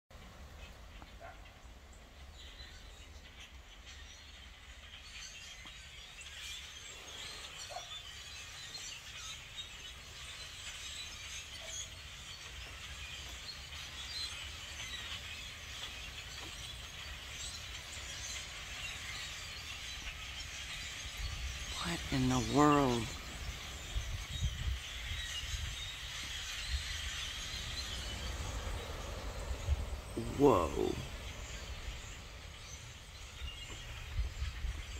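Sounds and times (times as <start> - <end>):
flock of blackbirds calling: 0.2 - 34.9.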